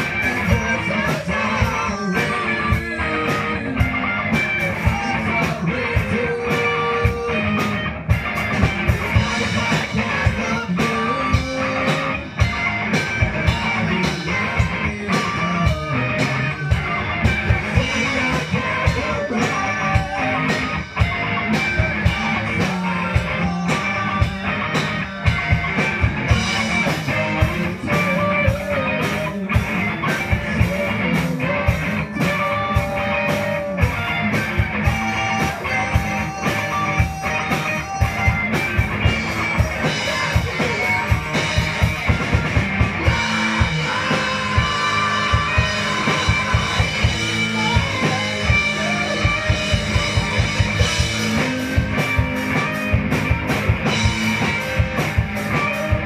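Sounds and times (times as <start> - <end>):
person singing: 0.0 - 7.9, 8.9 - 52.9
drum kit beat: 0.0 - 56.0
electric guitars: 0.0 - 56.0.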